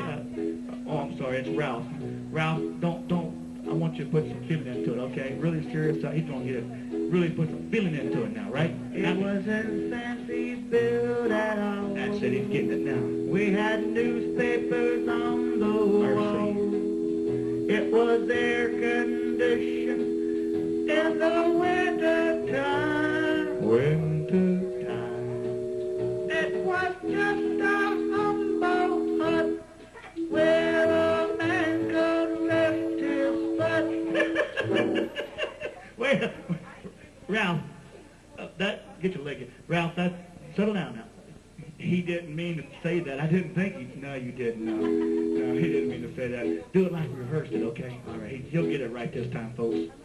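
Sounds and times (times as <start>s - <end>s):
man singing: 0.0s - 25.6s, 26.3s - 35.0s, 42.6s - 49.9s
backing music of held chords: 0.0s - 35.3s, 44.3s - 50.0s.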